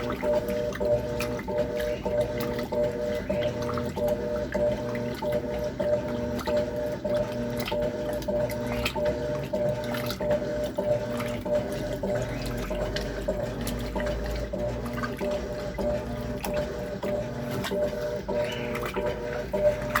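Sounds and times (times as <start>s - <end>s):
washing machine motor hum: 0.0s - 20.0s
water sloshing in drum: 0.0s - 20.0s.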